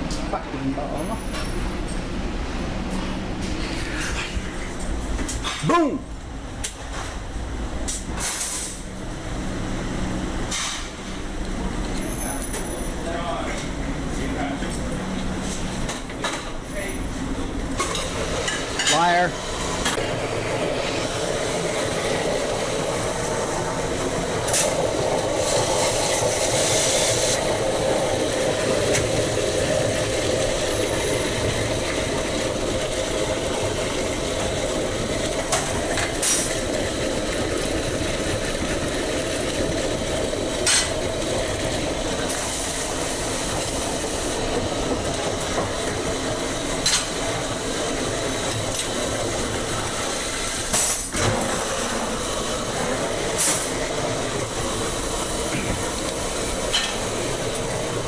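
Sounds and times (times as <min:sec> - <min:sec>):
kitchen equipment drone with hiss: 0:00.0 - 0:58.0.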